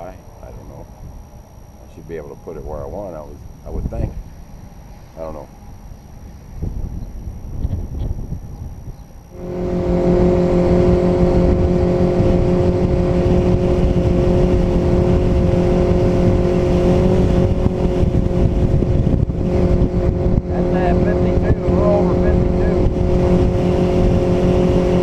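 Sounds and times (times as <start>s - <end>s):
outboard motor running hard: 0.0s - 25.0s.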